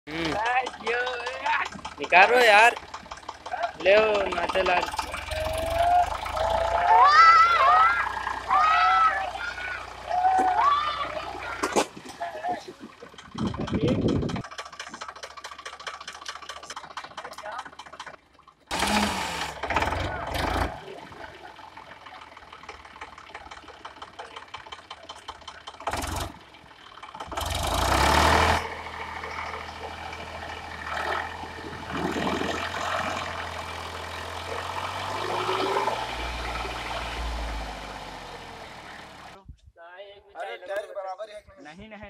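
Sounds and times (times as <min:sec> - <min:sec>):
tractor diesel engine running: 0:00.1 - 0:39.4.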